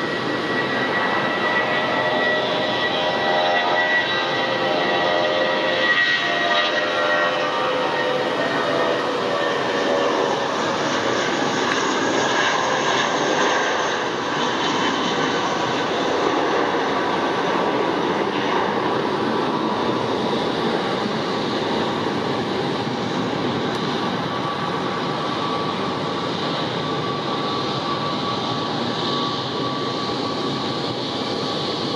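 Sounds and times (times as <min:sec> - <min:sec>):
jet engine roar with whine: 0:00.0 - 0:31.9.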